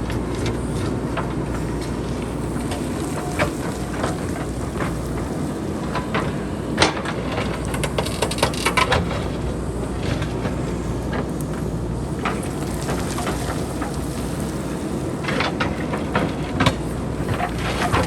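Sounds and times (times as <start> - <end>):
rocks clattering down hillside: 0.0 - 18.0.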